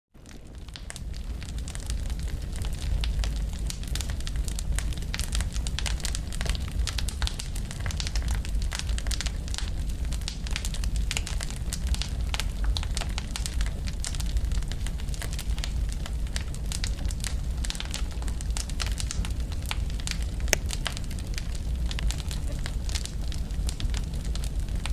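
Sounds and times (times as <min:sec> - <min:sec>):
low rumble of fire: 0:00.2 - 0:24.9
wood fire crackling and popping: 0:00.2 - 0:24.9.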